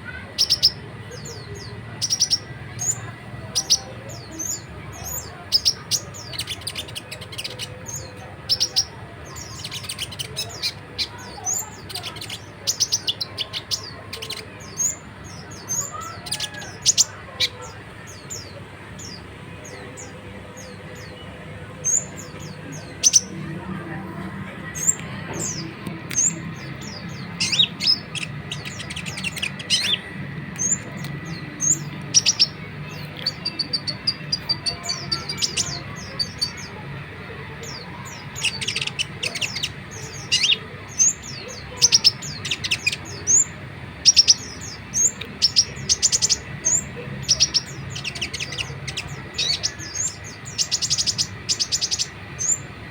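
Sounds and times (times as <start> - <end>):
sunbird singing: 0.0 - 52.9.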